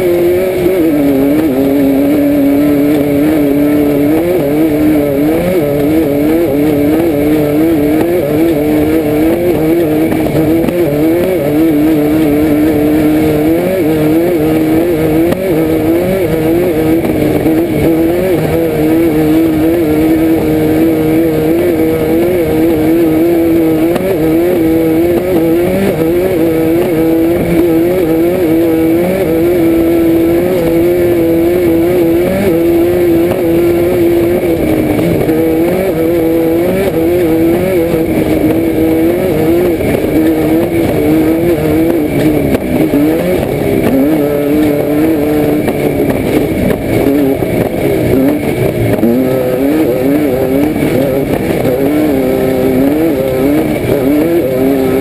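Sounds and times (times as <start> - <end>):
car engine revving: 0.0 - 55.0
driving noise: 0.0 - 55.0.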